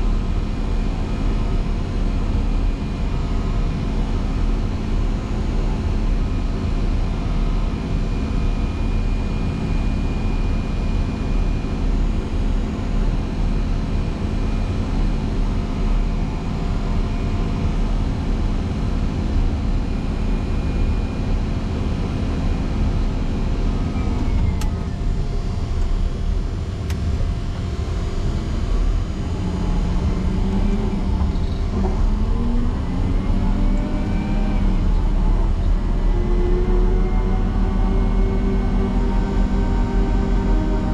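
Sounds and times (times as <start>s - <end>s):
grader diesel engine running: 0.0s - 40.9s.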